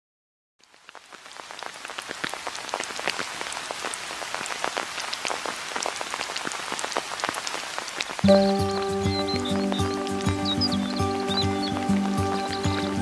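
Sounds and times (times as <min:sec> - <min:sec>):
close raindrop strikes: 0:00.6 - 0:13.0
steady rain falling: 0:00.6 - 0:13.0.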